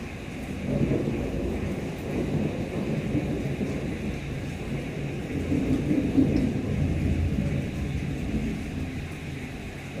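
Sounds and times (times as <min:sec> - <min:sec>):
rolling rumble of thunder: 0:00.0 - 0:10.0
steady hiss of rain: 0:00.0 - 0:10.0.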